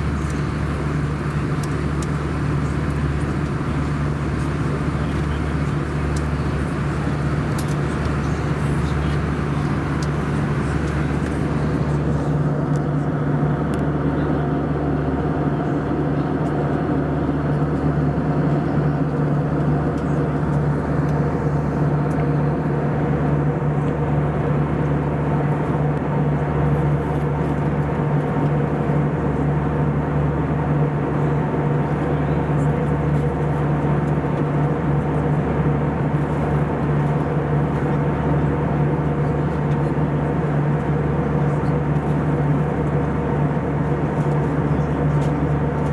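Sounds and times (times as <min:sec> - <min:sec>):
aircraft cabin engine drone: 0:00.0 - 0:45.9.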